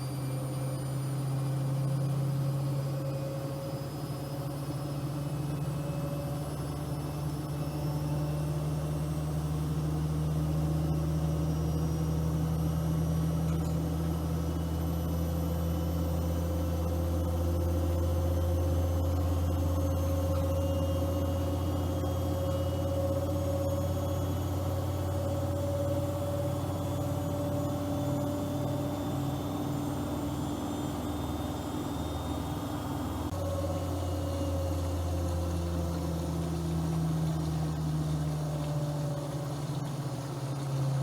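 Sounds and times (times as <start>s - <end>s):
washing machine motor hum: 0.0s - 41.0s.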